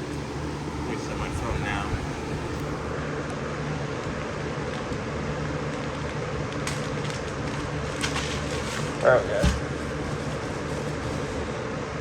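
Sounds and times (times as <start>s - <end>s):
mechanical whir with low hum: 0.0s - 12.0s.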